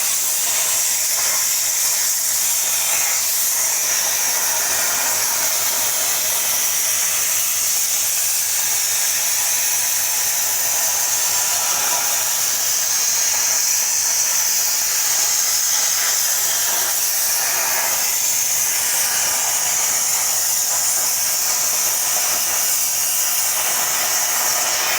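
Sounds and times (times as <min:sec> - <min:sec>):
plasma cutter hissing: 0:00.0 - 0:24.9.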